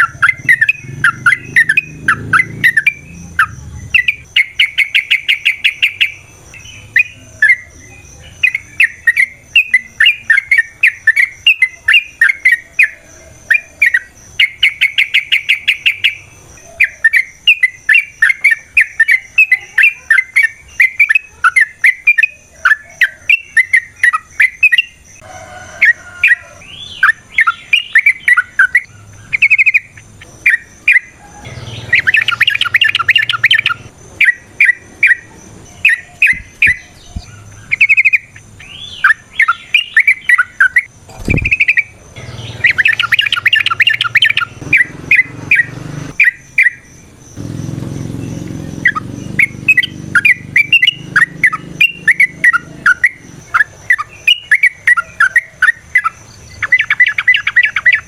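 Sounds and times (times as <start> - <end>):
bird singing chirping trills: 0.0 - 58.0.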